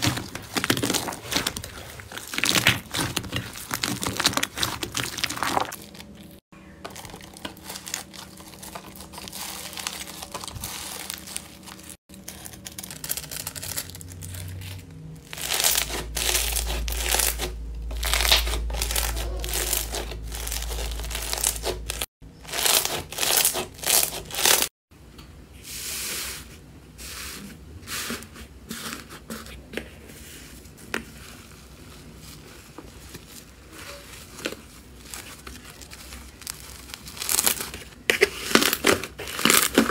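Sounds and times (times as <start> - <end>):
slime crackling and crinkling: 0.0 - 24.7, 28.7 - 39.9.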